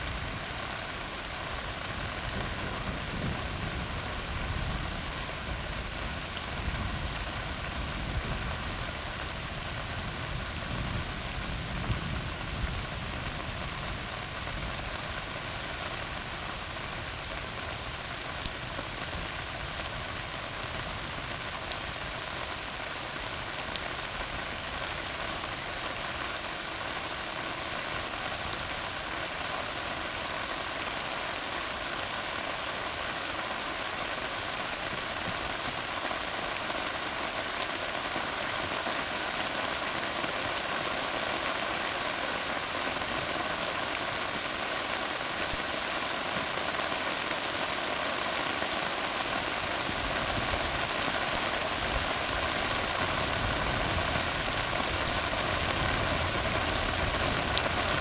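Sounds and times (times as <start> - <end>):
rain on road: 0.0 - 58.0.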